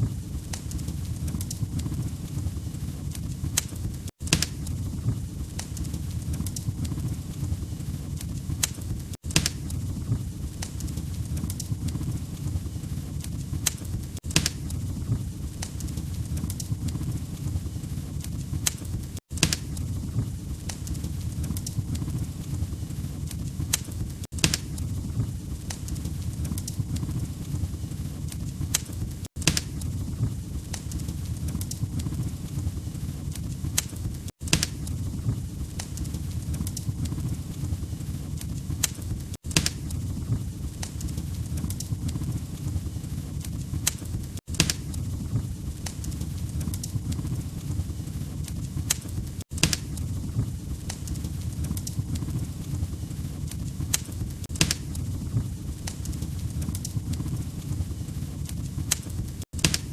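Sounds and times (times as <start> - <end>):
log fire crackling and popping: 0.0 - 59.9.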